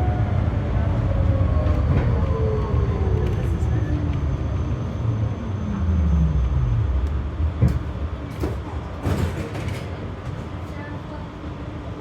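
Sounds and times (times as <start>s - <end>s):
tram rumble with motor tone: 0.0s - 12.0s.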